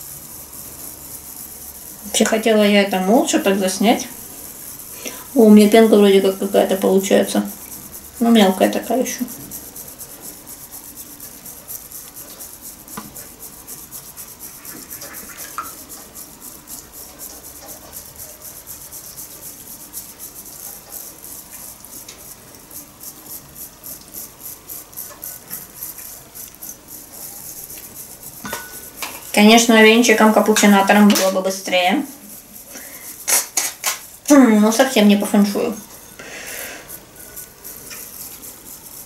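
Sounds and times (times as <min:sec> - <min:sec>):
bamboo whisk swishing in bowl: 0:02.0 - 0:36.1.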